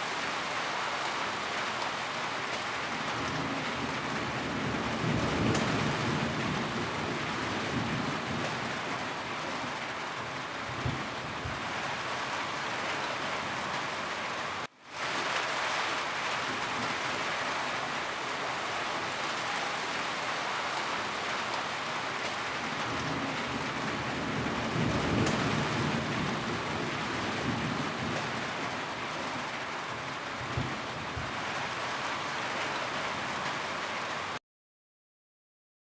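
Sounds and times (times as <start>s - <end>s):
rain pattering on a roof: 0.0s - 34.4s.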